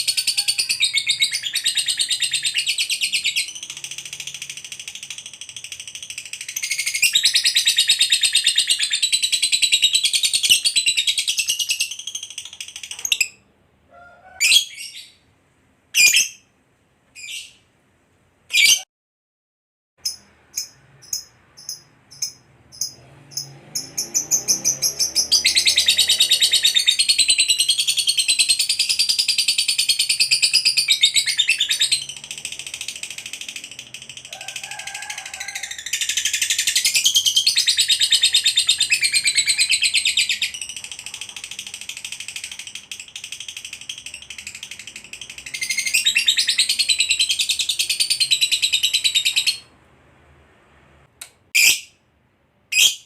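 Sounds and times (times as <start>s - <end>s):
lovebird chattering song: 0.0s - 13.4s, 20.0s - 49.7s, 52.7s - 53.0s.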